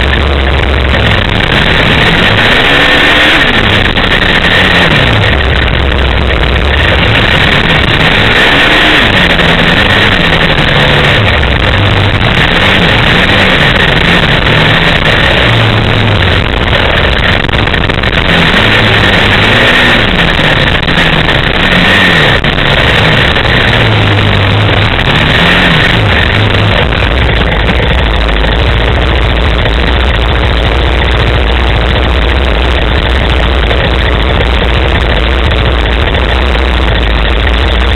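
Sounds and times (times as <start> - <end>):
loud steady rushing noise: 0.0 - 37.9
off-road vehicle engine revving: 0.0 - 37.9.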